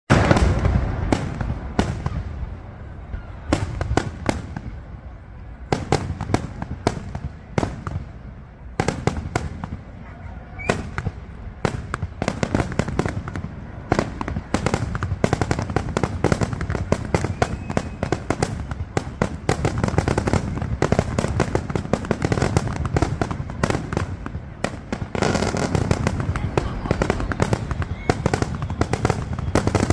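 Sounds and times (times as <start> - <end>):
fireworks bangs and crackles: 0.1 - 29.9.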